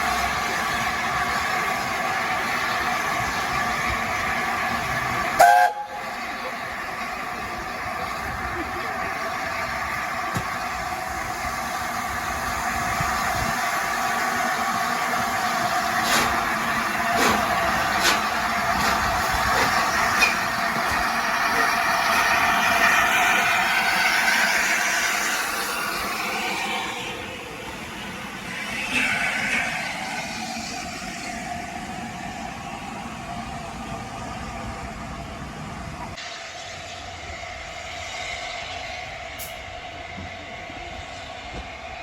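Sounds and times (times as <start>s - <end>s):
train running on rails: 0.0s - 42.0s.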